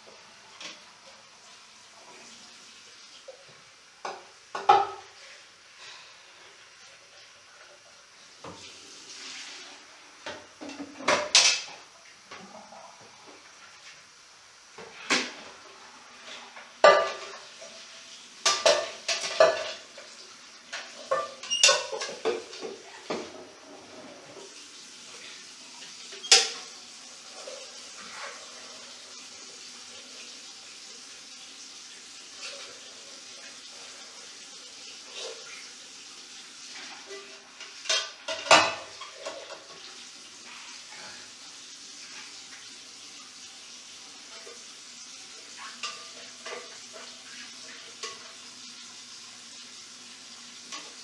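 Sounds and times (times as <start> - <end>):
tap water running: 0.0 - 51.0.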